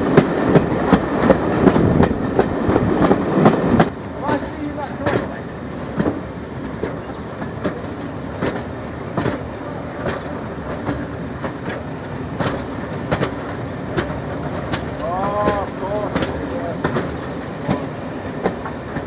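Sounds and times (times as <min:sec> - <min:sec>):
train running rumble: 0:00.0 - 0:19.0
train wheels clicking over rail joints: 0:00.0 - 0:19.0.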